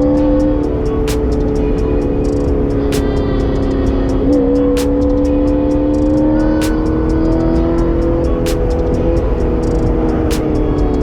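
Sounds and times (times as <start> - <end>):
background music: 0.0 - 11.0
car engine running: 0.0 - 11.0.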